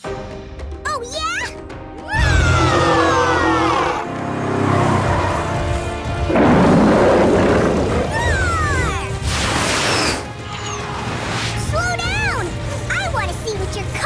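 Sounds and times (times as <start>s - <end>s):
cartoon background music: 0.0s - 14.0s.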